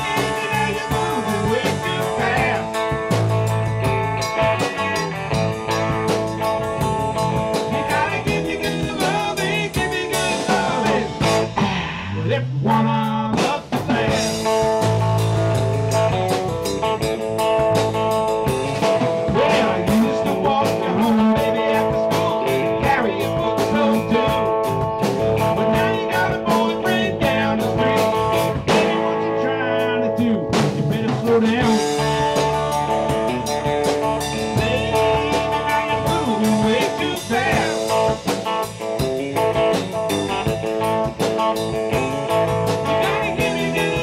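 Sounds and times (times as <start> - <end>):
drum kit: 0.0 - 44.0
electric bass: 0.0 - 44.0
electric guitar with string bends: 0.0 - 44.0.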